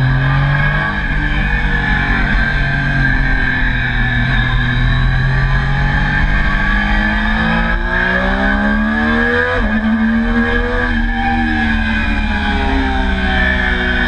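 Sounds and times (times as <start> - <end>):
motorcycle engine accelerating hard: 0.0 - 14.0.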